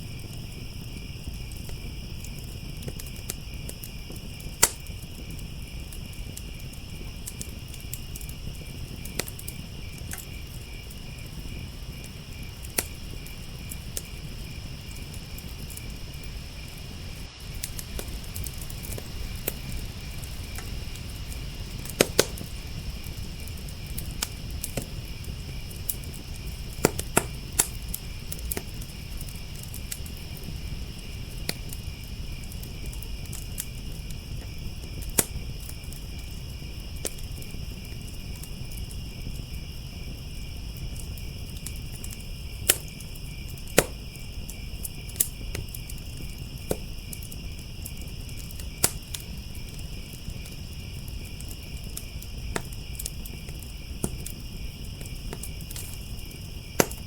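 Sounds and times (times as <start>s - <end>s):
crickets chirping: 0.0s - 57.0s
fire crackling: 0.0s - 57.0s
burning wood popping: 0.1s - 57.0s.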